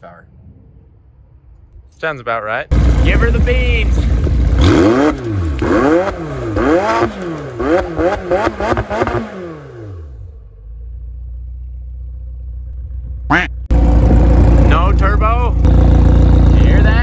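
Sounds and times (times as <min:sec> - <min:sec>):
car engine idling: 0:02.7 - 0:17.0
car engine revving: 0:02.7 - 0:17.0.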